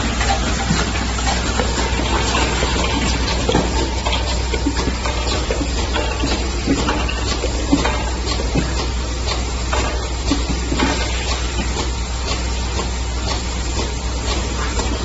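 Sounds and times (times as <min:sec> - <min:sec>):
machine and conveyor hum: 0:00.0 - 0:15.0.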